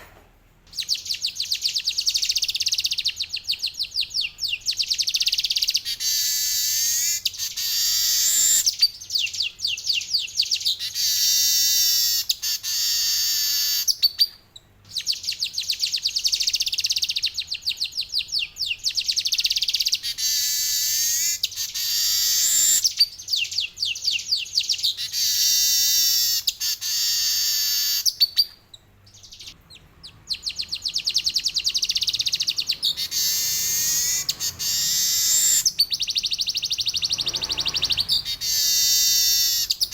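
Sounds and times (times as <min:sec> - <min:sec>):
weaver bird trilling song: 0:00.7 - 0:39.9.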